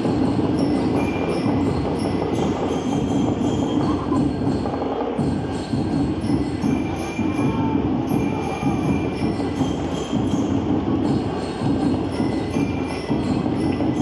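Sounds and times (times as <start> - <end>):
bell-lyre notes ringing: 0.0 - 14.0
steady drumming: 0.0 - 14.0.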